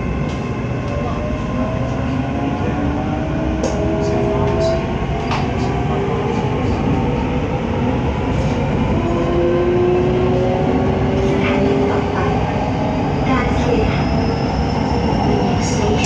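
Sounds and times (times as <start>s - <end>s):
wheels rumbling on track: 0.0s - 14.1s
train drive whine: 0.0s - 16.0s.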